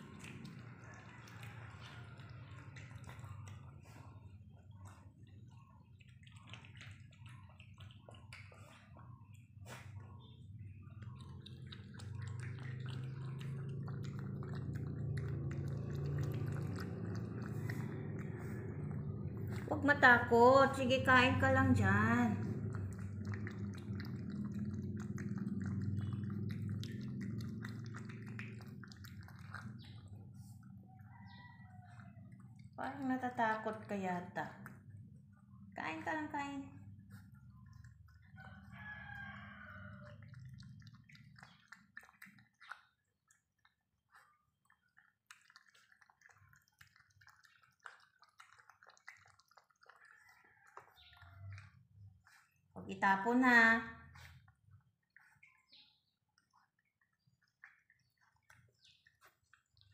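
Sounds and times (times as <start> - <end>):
puppy chewing wet food: 0.0 - 59.9.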